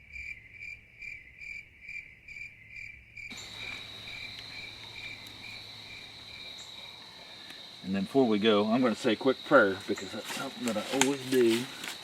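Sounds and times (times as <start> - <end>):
crickets chirping: 0.0 - 12.0
high insect trill: 0.0 - 12.0.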